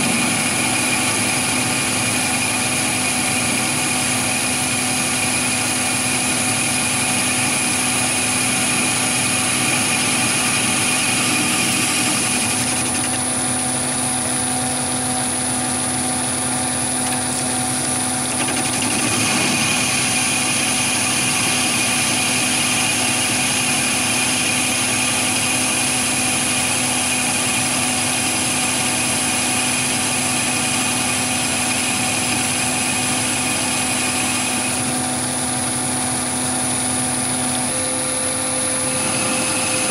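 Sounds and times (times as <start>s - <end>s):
lathe whining: 0.0s - 39.9s.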